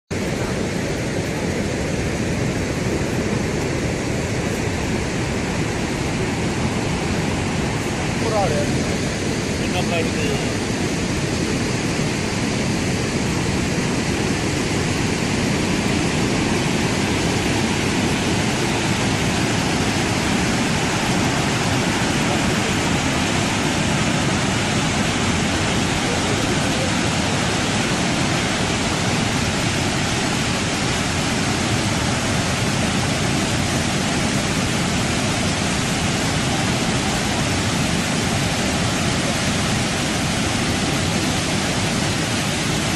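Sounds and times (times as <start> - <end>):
waterfall rushing: 0.1 - 42.9.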